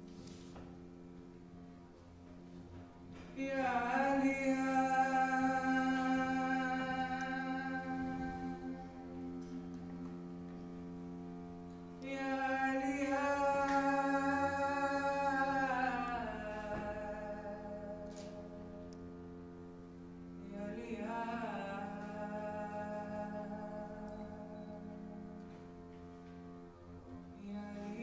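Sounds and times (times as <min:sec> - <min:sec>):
instrumental drone: 0:00.0 - 0:28.0.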